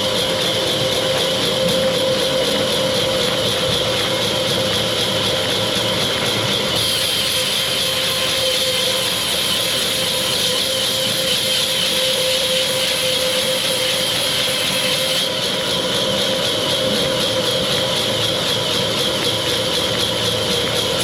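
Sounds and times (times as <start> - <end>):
machinery drone: 0.0 - 21.0
steady machine whine: 0.0 - 21.0.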